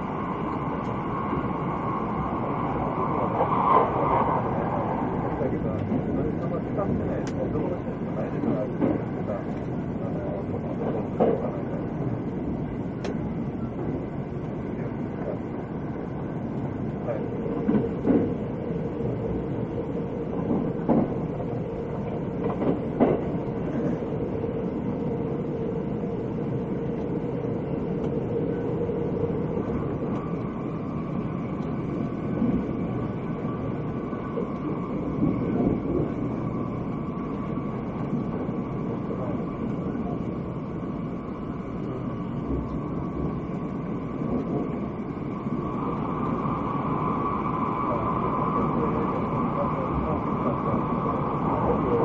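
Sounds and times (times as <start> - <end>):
train cabin rumble with hum: 0.0 - 52.0.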